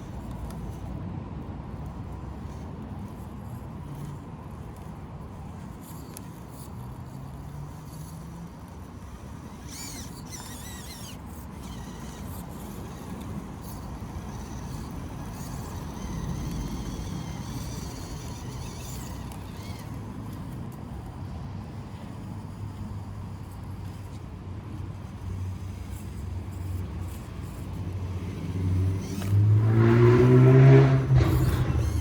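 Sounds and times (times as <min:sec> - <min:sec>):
outdoor background noise: 0:00.0 - 0:32.0
small electric motor whining: 0:01.8 - 0:32.0.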